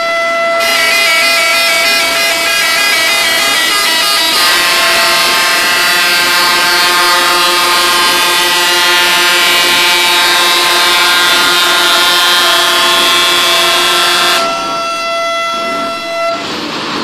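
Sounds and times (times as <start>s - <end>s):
truck air horns chord: 0.0s - 16.6s.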